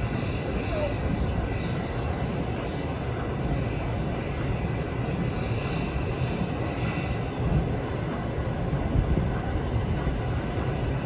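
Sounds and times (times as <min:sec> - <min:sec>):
train rumbling along rails: 0:00.0 - 0:11.0.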